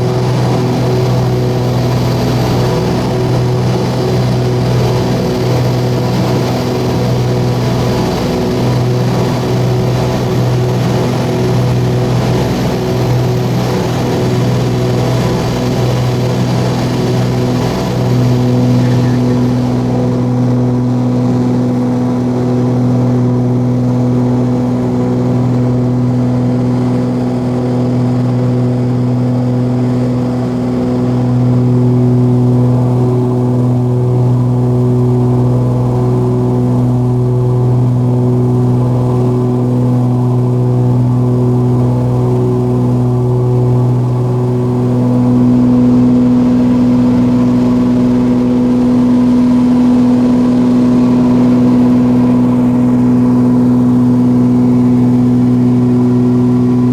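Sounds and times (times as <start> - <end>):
propeller aircraft engines droning: 0.0 - 56.9.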